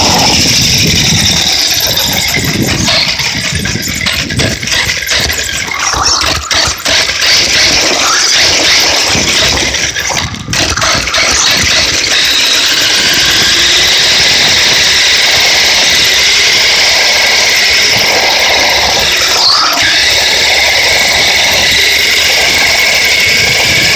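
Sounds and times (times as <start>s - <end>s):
toy truck motor whining: 0.0s - 23.9s.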